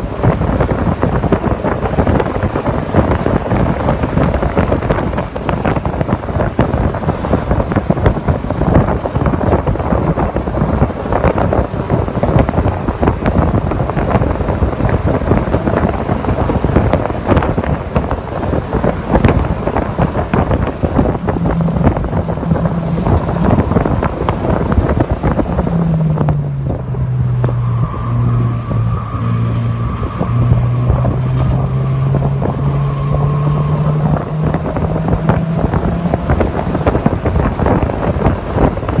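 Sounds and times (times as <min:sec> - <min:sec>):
car engine running at speed: 0:00.0 - 0:39.0
wind buffeting microphone: 0:00.0 - 0:39.0.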